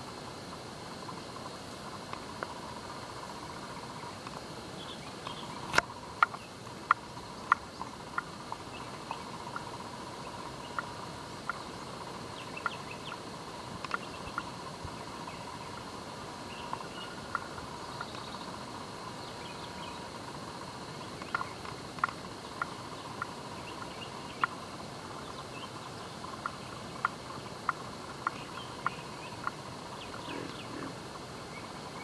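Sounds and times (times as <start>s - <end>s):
faint steady drone: 0.0s - 32.0s.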